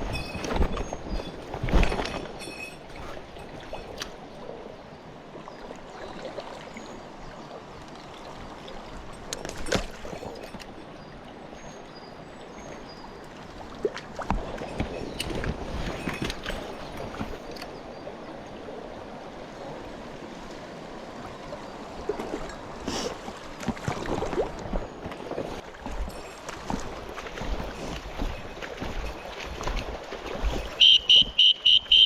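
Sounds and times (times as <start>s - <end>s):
small stream running: 0.0s - 32.0s.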